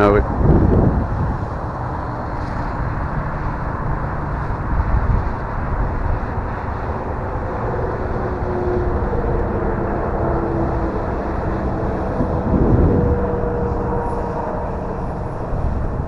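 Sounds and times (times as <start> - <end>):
wind rumble on microphone: 0.0 - 16.0
model plane motor droning: 0.4 - 16.0.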